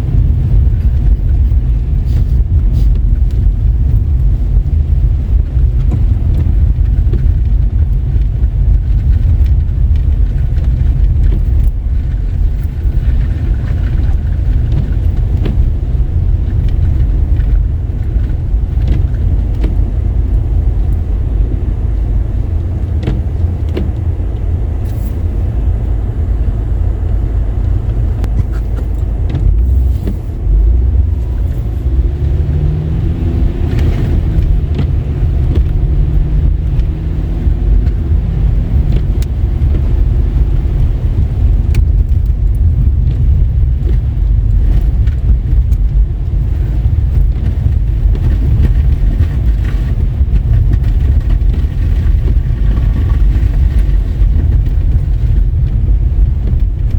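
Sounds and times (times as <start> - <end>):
car engine and tyre rumble: 0.0 - 56.9.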